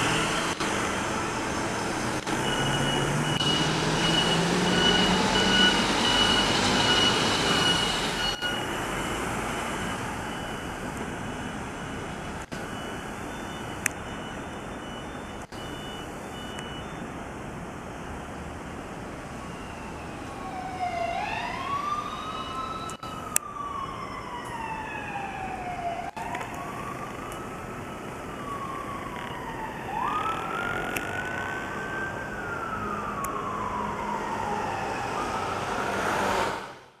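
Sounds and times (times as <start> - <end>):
fire engine siren wailing: 0.0 - 17.1, 18.9 - 37.0
engine and street noise: 0.0 - 37.0.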